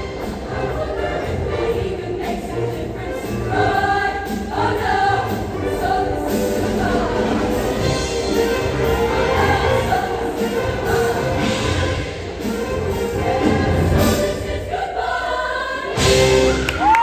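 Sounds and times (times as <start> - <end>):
choir singing: 0.0 - 16.9.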